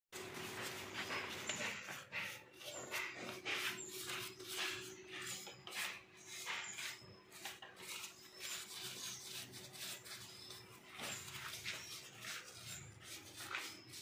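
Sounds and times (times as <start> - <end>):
hand scraping strokes: 0.2 - 14.0.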